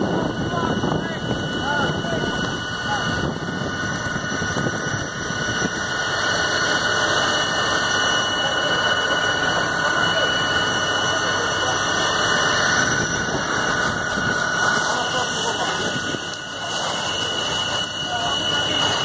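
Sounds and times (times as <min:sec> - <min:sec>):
constant high whine: 0:00.0 - 0:19.0
fire engine and pump noise: 0:00.0 - 0:19.0.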